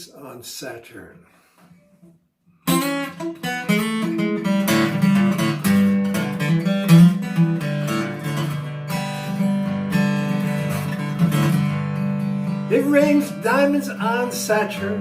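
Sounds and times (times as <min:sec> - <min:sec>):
acoustic guitar strumming: 0:02.0 - 0:15.0.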